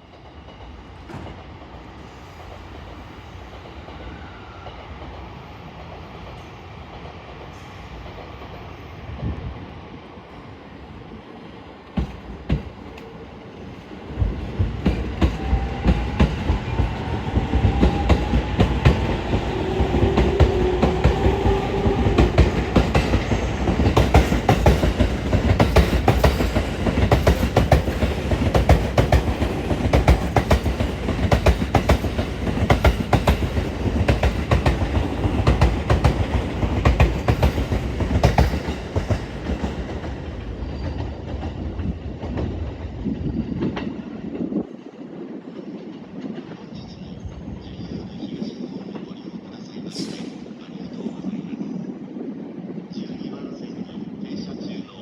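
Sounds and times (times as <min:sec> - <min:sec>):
electric train rumble and motor whine: 0:00.0 - 0:55.0.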